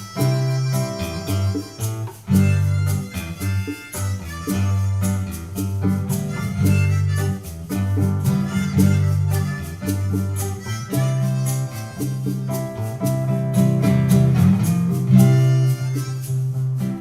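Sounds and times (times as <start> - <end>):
guitar playing: 0.0 - 17.0
hand percussion: 0.0 - 17.0.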